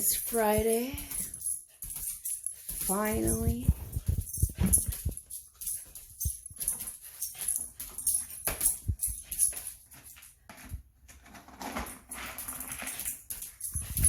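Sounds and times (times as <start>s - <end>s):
light metallic jingle: 0.0s - 10.8s, 11.7s - 14.0s.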